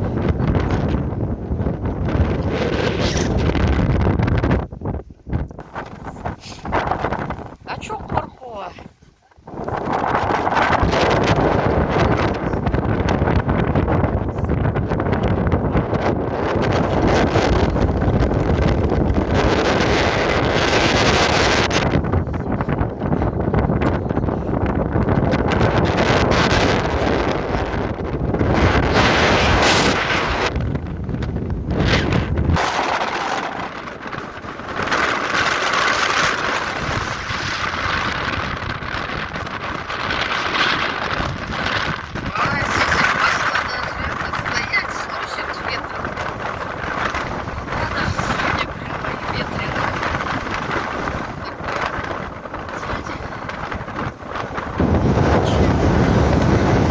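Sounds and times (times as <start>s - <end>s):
strong wind rushing: 0.0s - 56.9s
wind buffeting microphone: 0.0s - 56.9s.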